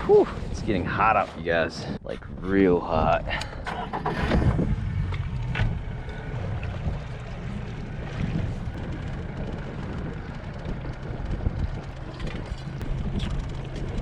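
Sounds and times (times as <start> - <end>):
boat engine rumble: 0.0 - 14.0
wind buffeting microphone: 0.0 - 14.0.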